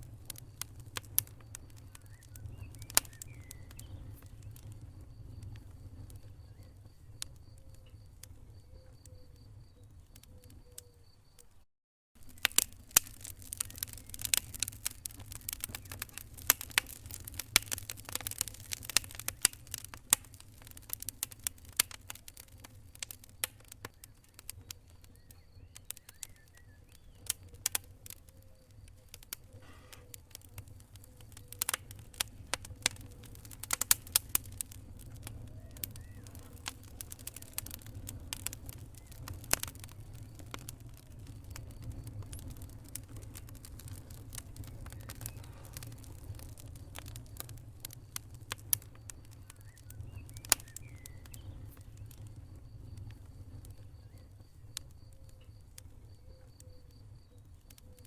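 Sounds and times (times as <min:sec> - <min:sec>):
wood fire crackling: 0:00.0 - 0:11.6, 0:12.2 - 0:58.0.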